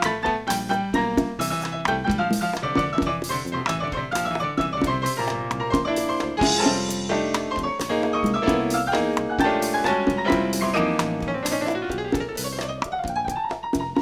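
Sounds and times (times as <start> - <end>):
drums and bass: 0.0 - 14.0
jazz piano solo: 0.0 - 14.0.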